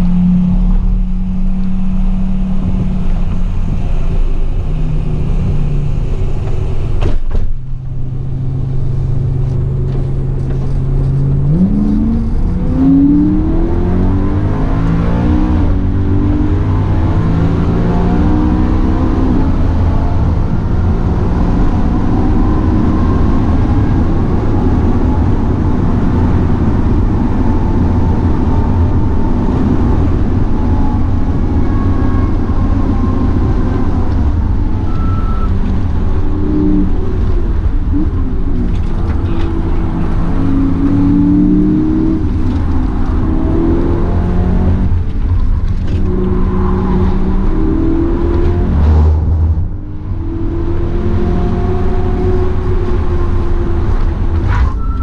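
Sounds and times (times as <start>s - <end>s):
car engine revving: 0.0s - 55.0s
road noise rumble: 0.0s - 55.0s.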